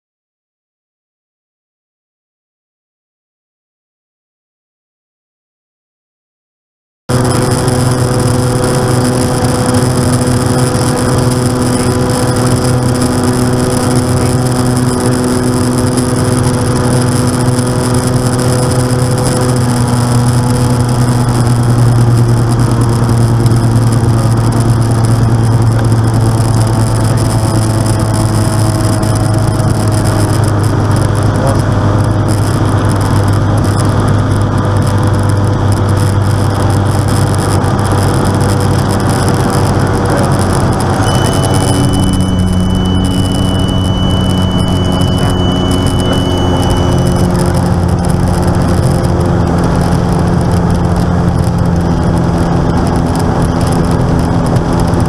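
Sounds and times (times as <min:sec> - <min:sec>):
light aircraft engine drone: 0:07.1 - 0:55.0.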